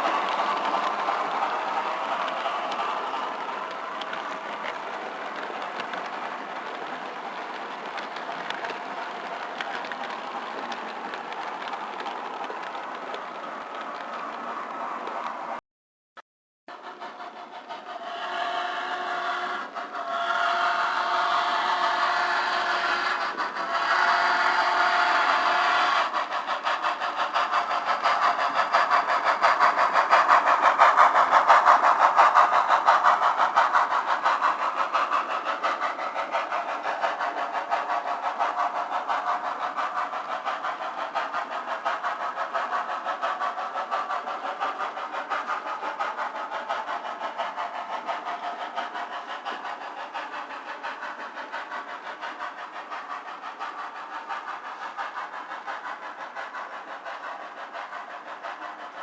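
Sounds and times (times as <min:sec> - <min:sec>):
model train steam chuffs: 0:00.0 - 0:15.6, 0:16.7 - 0:59.0.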